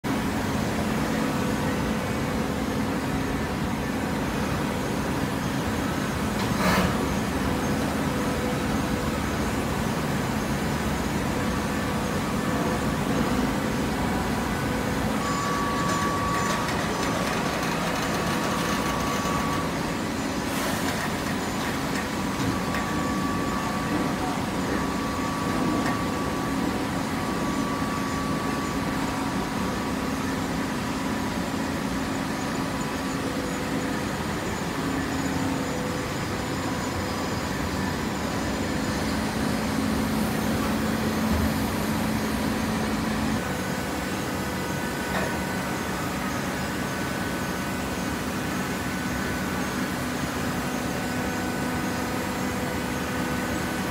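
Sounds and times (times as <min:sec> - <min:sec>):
high machine whine: 0:00.1 - 0:53.9
hydraulic machine hum: 0:00.1 - 0:53.9.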